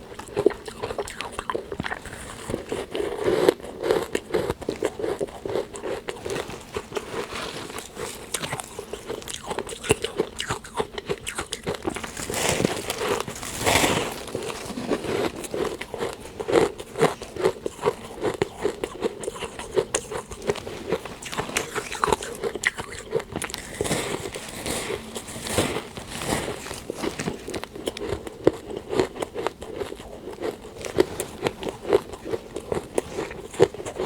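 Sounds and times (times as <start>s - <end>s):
chewing crunchy frost: 0.0s - 34.0s.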